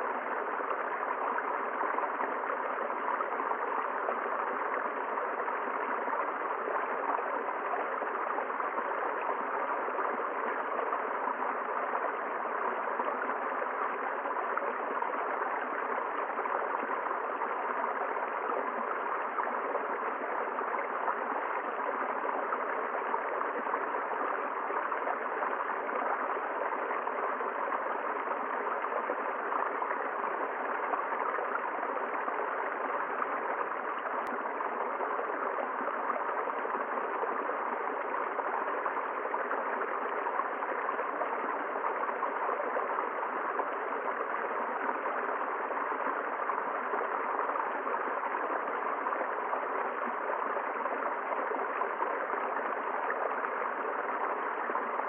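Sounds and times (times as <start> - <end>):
river flowing over rocks: 0.0 - 55.0.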